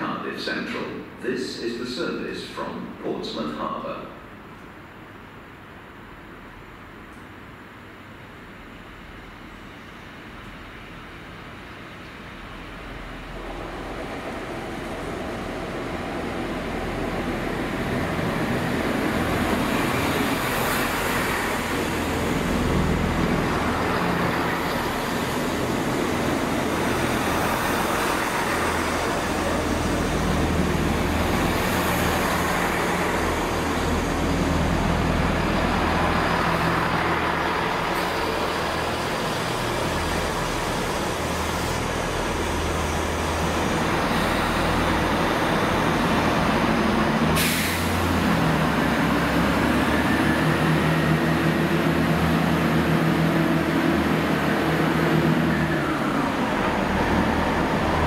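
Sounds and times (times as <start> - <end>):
diesel train engine drone: 0.0 - 58.0.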